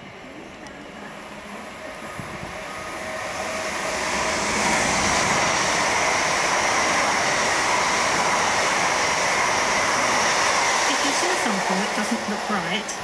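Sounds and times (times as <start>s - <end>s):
train wheel-on-rail noise: 0.0s - 13.0s.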